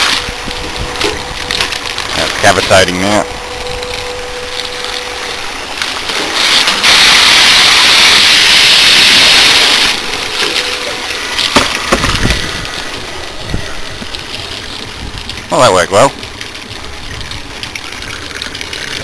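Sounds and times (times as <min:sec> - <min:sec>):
water jet hissing on metal: 0:00.0 - 0:16.0.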